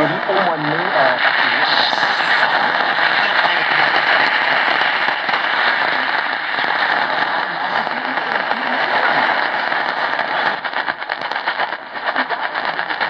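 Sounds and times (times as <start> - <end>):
faint distant radio voice: 0.0 - 13.0
radio static hiss and crackle: 0.0 - 13.0.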